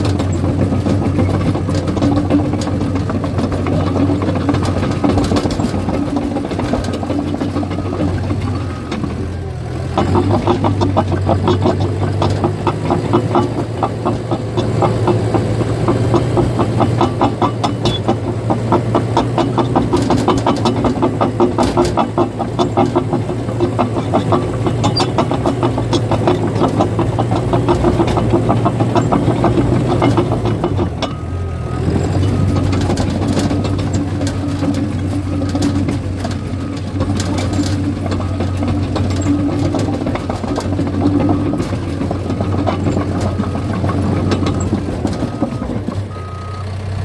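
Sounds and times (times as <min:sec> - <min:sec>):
bulldozer diesel engine running: 0:00.0 - 0:47.0
steel tracks clattering: 0:00.0 - 0:47.0.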